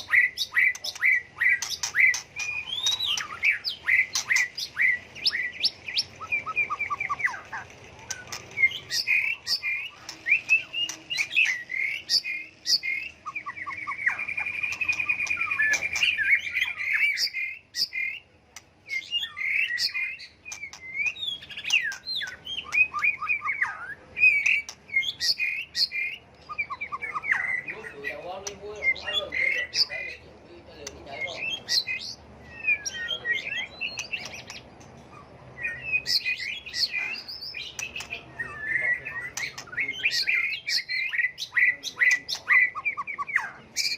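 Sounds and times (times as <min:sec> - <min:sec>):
rapid bird trill: 0:00.0 - 0:30.2, 0:30.8 - 0:43.9
bird singing varied song: 0:00.0 - 0:43.9.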